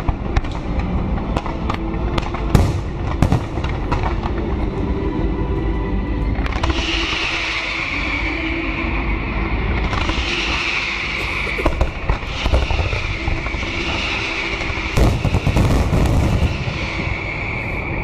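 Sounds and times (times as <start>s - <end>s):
fireworks booming and crackling: 0.0s - 5.2s, 6.3s - 8.2s, 9.7s - 18.0s.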